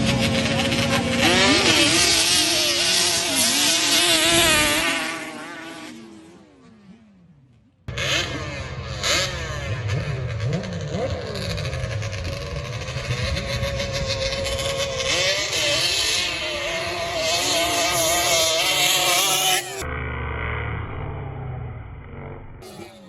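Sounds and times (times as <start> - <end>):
quad engines revving: 0.0 - 23.0.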